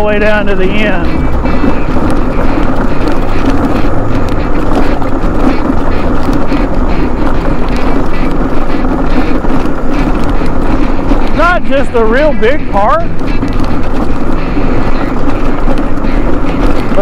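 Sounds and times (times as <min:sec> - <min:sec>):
scooter rumbling over gravel: 0:00.0 - 0:17.0
wind on microphone: 0:00.0 - 0:17.0.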